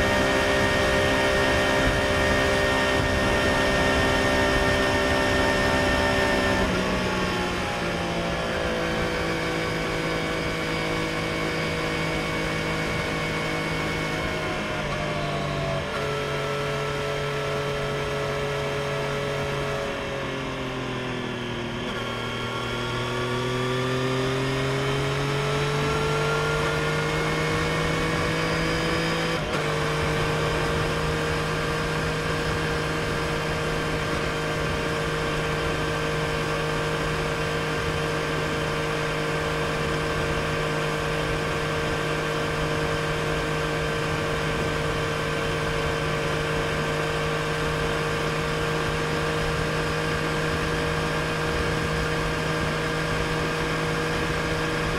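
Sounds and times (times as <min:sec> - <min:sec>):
motorcycle engine accelerating: 0:00.0 - 0:54.9
wind and road noise: 0:00.0 - 0:54.9.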